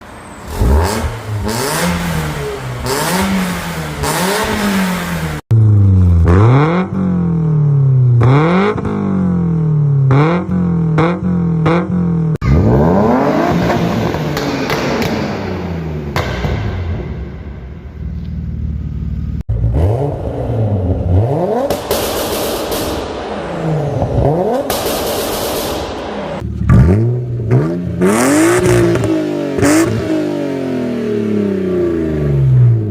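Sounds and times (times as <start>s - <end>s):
car engine revving: 0.4s - 32.9s.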